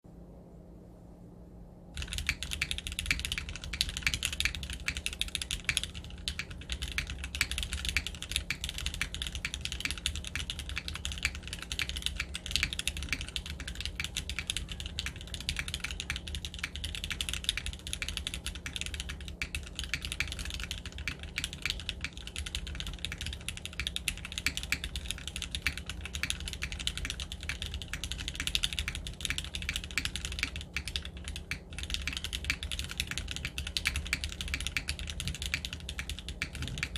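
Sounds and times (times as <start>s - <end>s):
fast mechanical keyboard typing: 2.0s - 36.9s.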